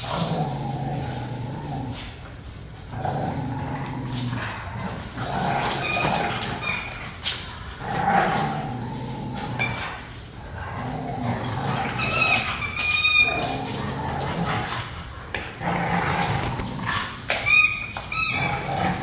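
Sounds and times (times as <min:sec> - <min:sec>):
dogs growling and snarling: 0:00.0 - 0:17.4, 0:18.1 - 0:19.0.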